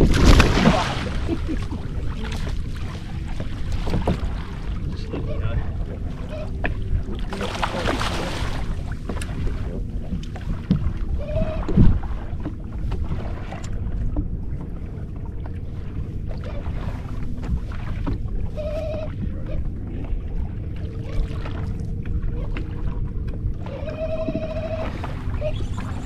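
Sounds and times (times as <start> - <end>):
water splashing: 0.0 - 26.0
wind buffeting microphone: 0.0 - 26.0.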